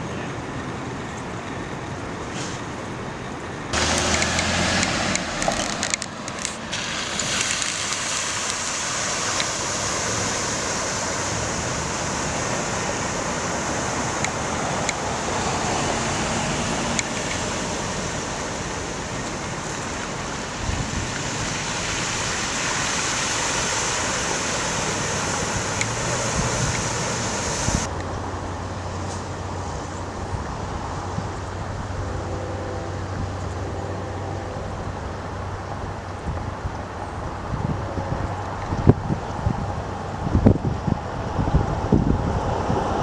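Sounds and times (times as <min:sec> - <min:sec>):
floodwater rushing through rapids: 0:03.7 - 0:43.0.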